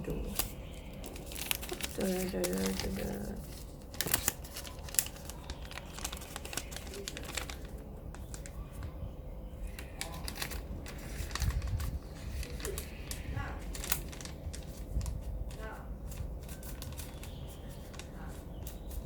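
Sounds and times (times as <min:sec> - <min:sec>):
plastic packaging crinkling: 0:00.1 - 0:09.0, 0:09.6 - 0:19.0.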